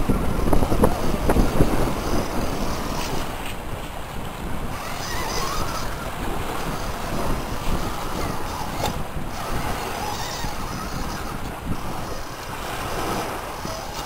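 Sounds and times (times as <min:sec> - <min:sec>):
surf washing: 0:00.0 - 0:14.0
wind rumble on microphone: 0:00.0 - 0:14.0.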